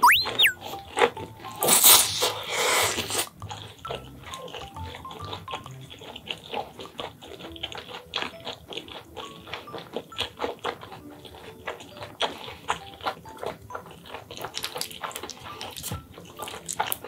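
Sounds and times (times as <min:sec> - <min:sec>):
light background music: 0:00.0 - 0:17.0
wet chewing: 0:00.0 - 0:17.0
slurping noodles: 0:01.6 - 0:17.0.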